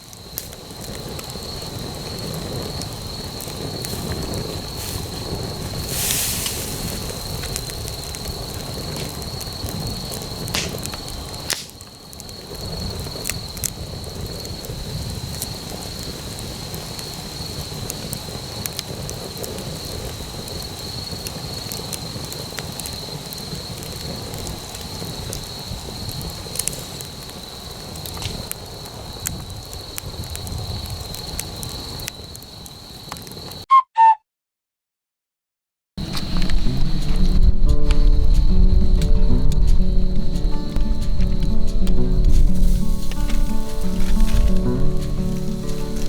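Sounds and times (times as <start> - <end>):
campfire crackling and popping: 0.0 - 33.6, 36.0 - 46.0.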